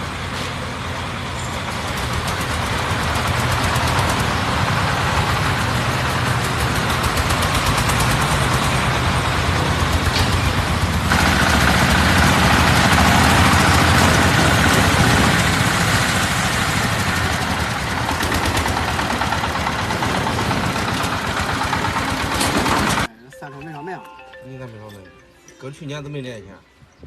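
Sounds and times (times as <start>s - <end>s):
engine running with chatter: 0.0s - 23.1s.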